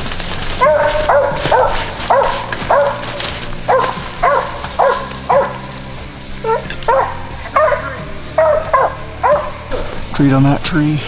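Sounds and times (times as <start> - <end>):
dog barking: 0.5 - 9.8.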